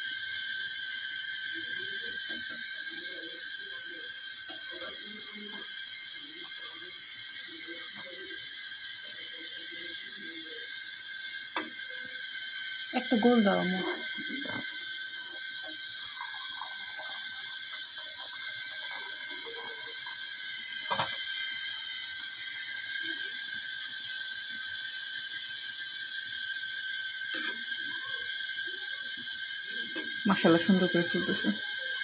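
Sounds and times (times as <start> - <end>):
dough deep-frying in hot oil: 0.0 - 32.0.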